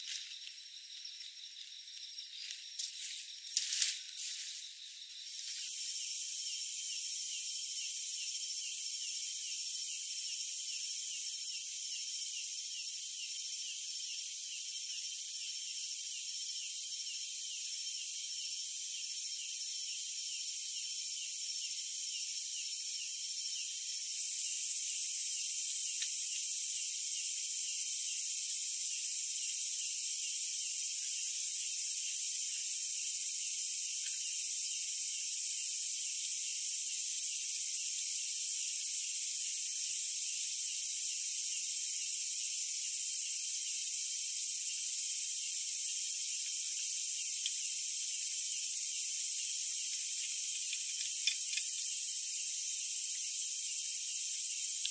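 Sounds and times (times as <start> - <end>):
night insects trilling: 0.0 - 54.9.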